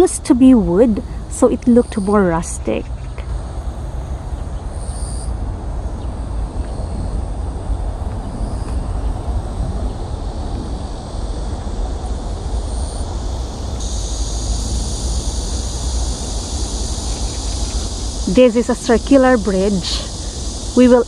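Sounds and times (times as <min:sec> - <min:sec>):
high even hiss: 0:00.0 - 0:21.0
low outdoor rumble: 0:00.0 - 0:21.0.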